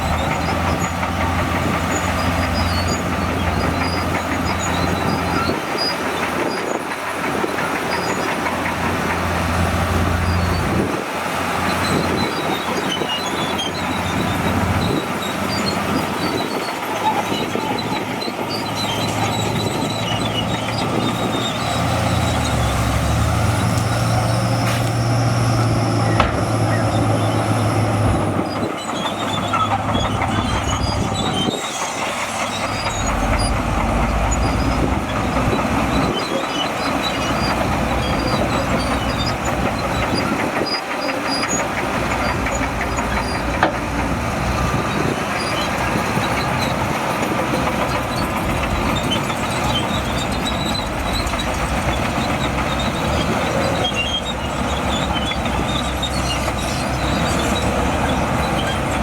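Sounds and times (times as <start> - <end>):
bulldozer diesel engine under load: 0.0 - 59.0
steel tracks clanking and squealing: 0.0 - 59.0.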